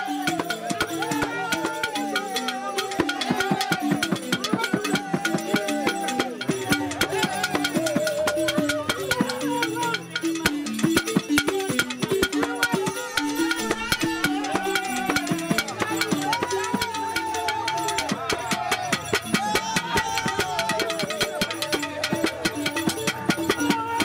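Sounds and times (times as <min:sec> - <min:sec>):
gourd drum struck by hand: 0:00.0 - 0:24.0
wooden xylophones playing: 0:00.0 - 0:24.0.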